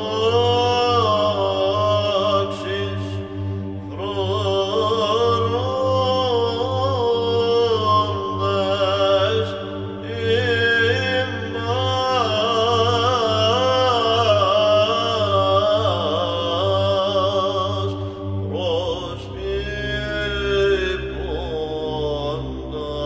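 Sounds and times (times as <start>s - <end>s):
held vocal drone: 0.0s - 23.0s
person chanting ornamented melody: 0.0s - 23.0s.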